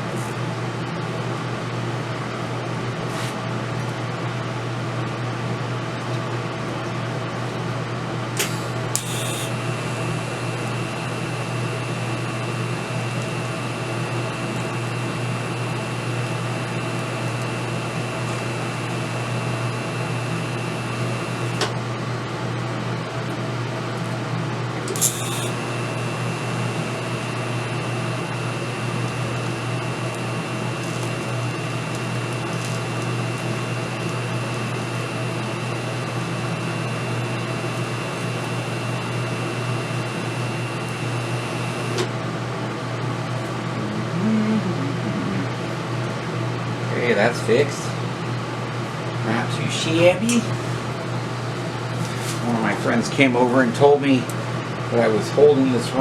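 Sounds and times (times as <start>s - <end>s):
welding arc crackling and whining: 7.5s - 55.1s
welder humming: 7.9s - 22.1s, 23.9s - 55.1s.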